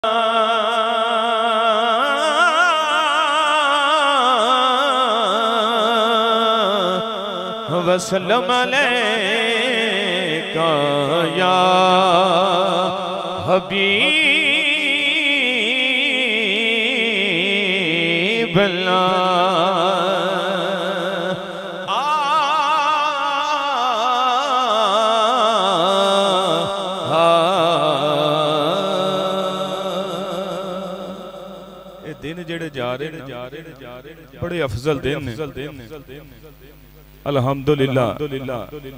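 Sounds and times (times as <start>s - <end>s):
man singing into microphone: 0.0s - 36.6s.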